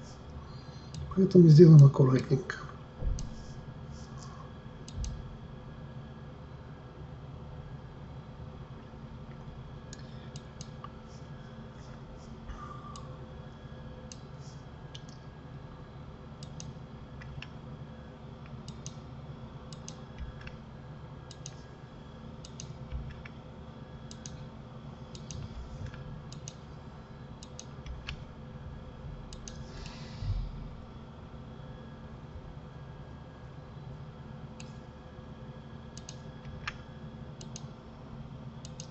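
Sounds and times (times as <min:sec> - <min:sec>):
steady background hum: 0:00.0 - 0:38.9.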